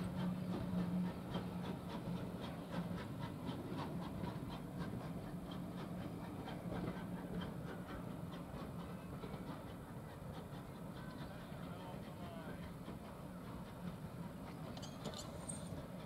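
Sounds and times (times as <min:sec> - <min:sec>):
idling diesel train hum: 0:00.0 - 0:16.0
train wheels clicking on track: 0:00.0 - 0:16.0.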